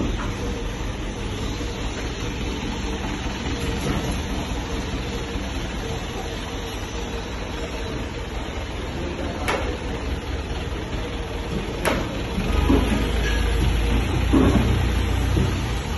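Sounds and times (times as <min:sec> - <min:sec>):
mechanical running noise: 0:00.0 - 0:15.9.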